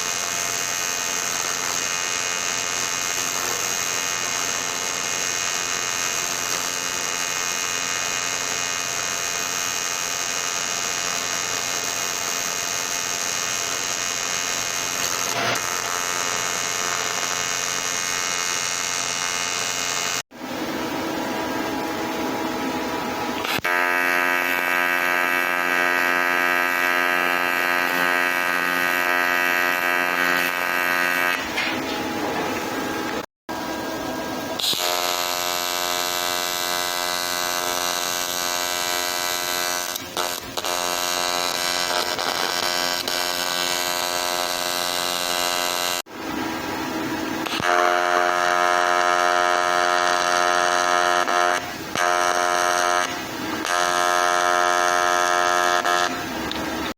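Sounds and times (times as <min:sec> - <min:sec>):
welding arc buzzing: 0:00.0 - 0:56.9.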